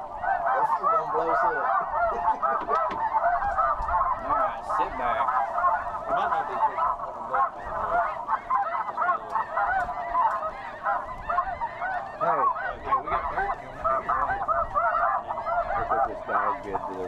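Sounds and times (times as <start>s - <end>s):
geese honking in flight: 0.0s - 17.0s.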